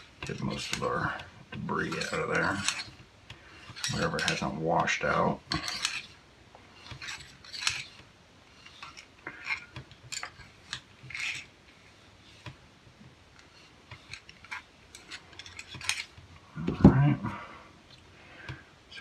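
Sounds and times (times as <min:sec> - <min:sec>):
light metal clicks and scrapes: 0:00.0 - 0:06.2, 0:06.8 - 0:12.6, 0:13.3 - 0:19.0.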